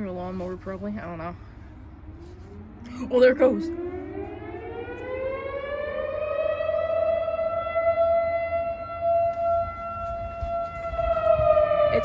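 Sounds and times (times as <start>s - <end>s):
distant civil defense siren: 0.0s - 12.0s.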